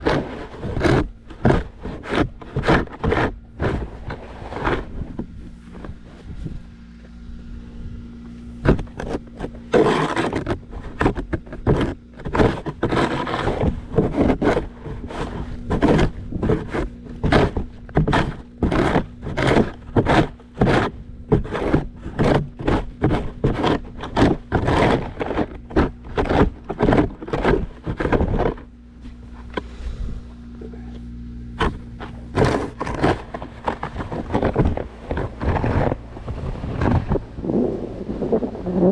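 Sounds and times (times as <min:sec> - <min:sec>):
faint low hum: 0:00.0 - 0:38.9
snow shovel scraping: 0:00.0 - 0:38.9.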